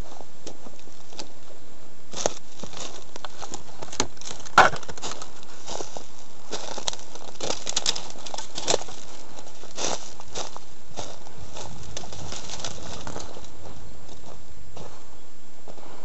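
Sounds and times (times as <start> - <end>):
background hiss: 0.0 - 16.0
footsteps crunching on rocky ground: 0.0 - 16.0.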